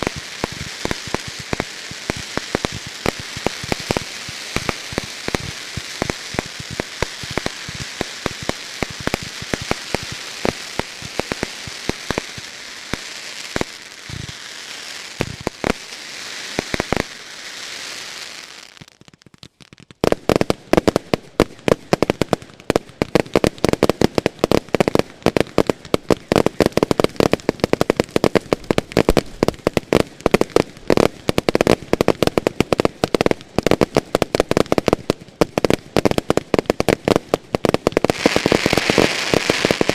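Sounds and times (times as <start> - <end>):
rapid firework bangs: 0.0 - 18.0, 18.9 - 39.9
fireworks crackling hiss: 0.0 - 39.9.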